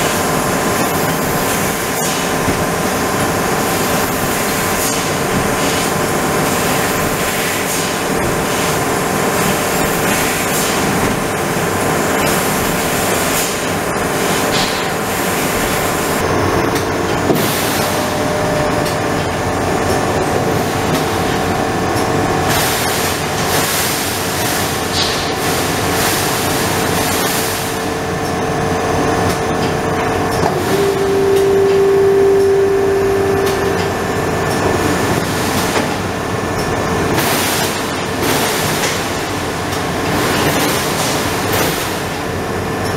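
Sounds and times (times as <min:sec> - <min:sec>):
laser cutting machine hiss and hum: 0:00.0 - 0:42.9
pallet changer whine: 0:00.0 - 0:42.9.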